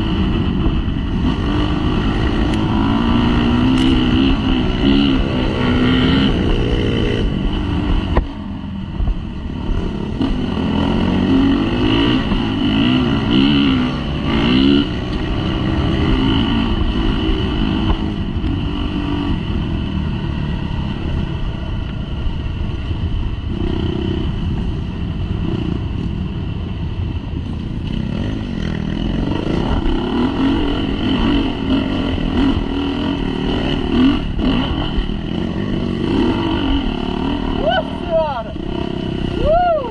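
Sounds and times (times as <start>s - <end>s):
dirt bike engine revving: 0.0s - 8.2s, 9.4s - 21.6s, 27.9s - 39.6s.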